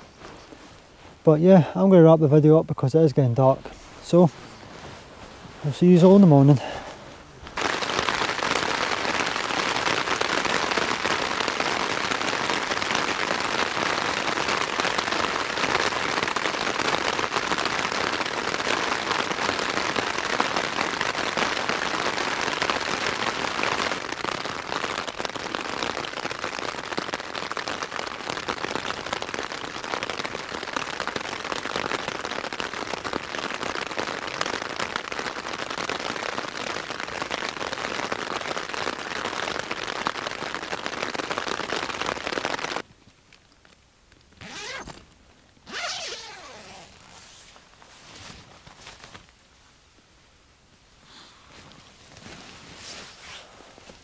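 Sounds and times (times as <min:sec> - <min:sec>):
rain pattering on tent fabric: 0:00.0 - 0:54.0.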